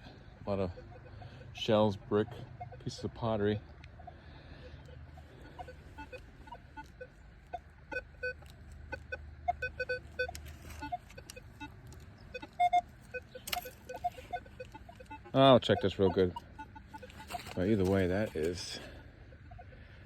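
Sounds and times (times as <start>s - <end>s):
metal detector beeps: 0.0s - 3.7s, 4.7s - 19.8s.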